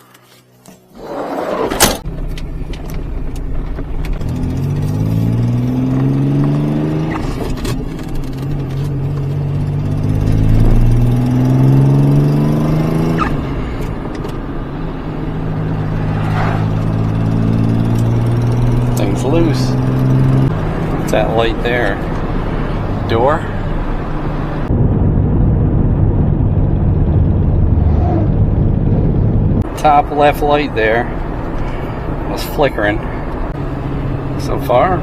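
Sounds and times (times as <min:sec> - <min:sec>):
car engine accelerating: 0:01.0 - 0:35.0.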